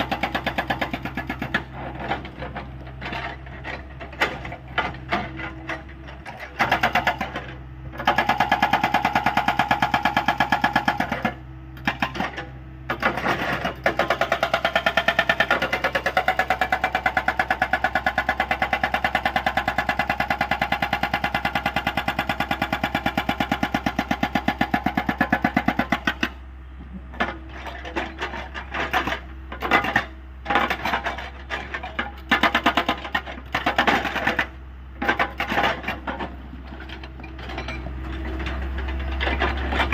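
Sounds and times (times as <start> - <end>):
hydraulic rock breaker hammering: 0.0 - 26.4, 27.2 - 39.9.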